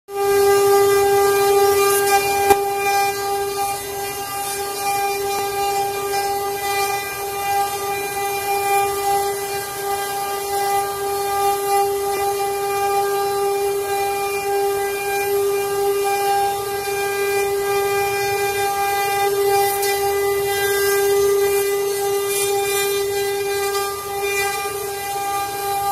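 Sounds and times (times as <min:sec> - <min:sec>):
router spindles whining: 0:00.1 - 0:25.9
cutters chipping wood: 0:00.5 - 0:15.7, 0:16.8 - 0:25.9.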